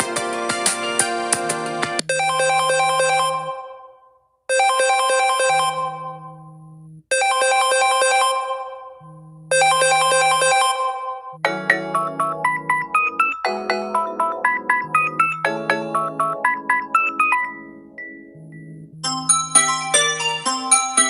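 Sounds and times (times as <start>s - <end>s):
faster ringtone: 2.1s - 3.8s, 4.5s - 6.2s, 7.1s - 21.0s
phone ringtone chime: 2.1s - 3.8s, 4.5s - 6.3s, 7.1s - 21.0s.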